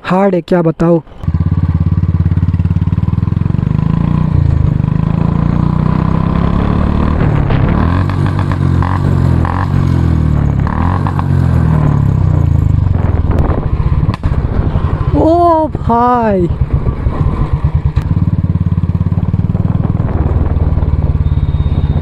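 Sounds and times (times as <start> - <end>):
motorcycle throttle blips: 1.1 - 15.3, 16.5 - 22.0
motorcycle engine running: 1.1 - 22.0.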